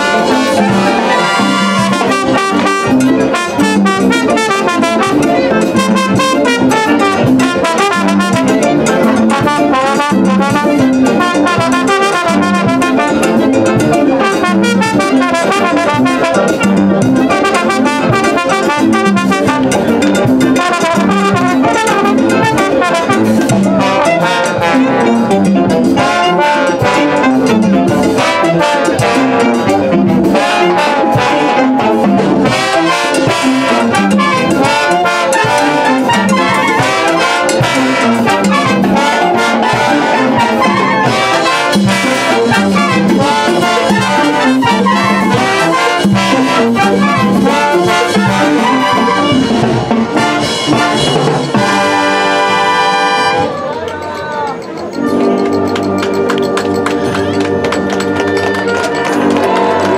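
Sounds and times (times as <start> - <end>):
brass band playing: 0.0 - 59.9.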